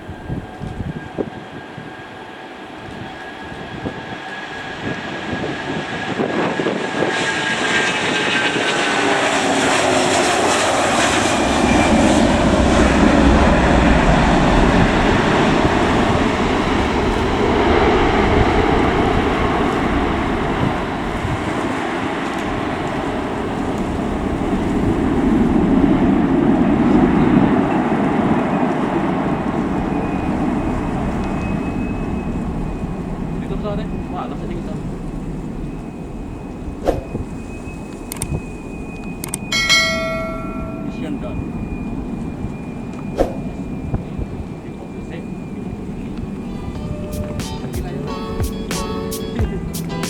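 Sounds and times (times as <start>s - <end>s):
jet airliner engines at takeoff: 0.0s - 50.0s.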